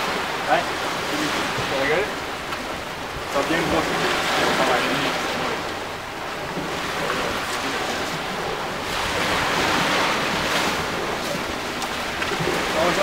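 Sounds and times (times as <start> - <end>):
sea waves washing onto pebbles: 0.0 - 13.0.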